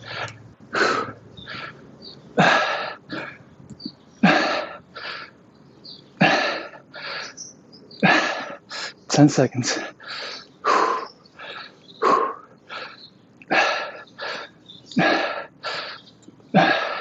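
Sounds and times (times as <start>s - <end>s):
man breathing hard: 0.0s - 3.5s, 4.2s - 5.4s, 6.2s - 17.0s.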